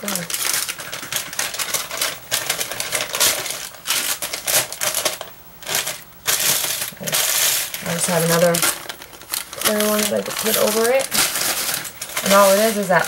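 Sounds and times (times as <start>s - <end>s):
laminating sheet crackling: 0.0s - 13.0s.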